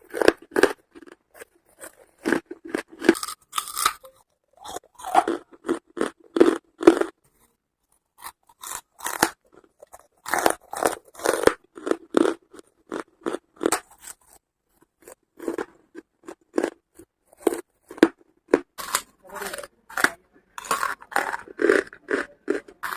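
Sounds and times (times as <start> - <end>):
charcoal being chewed: 0.0 - 22.9.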